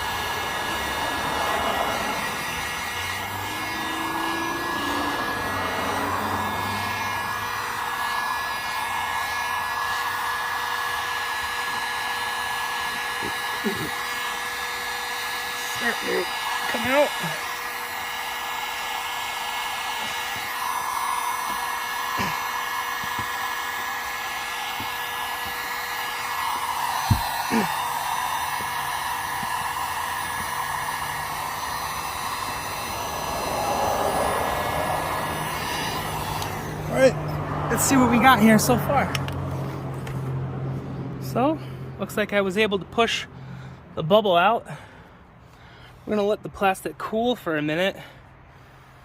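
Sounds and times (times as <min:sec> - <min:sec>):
heat gun blowing: 0:00.0 - 0:43.8.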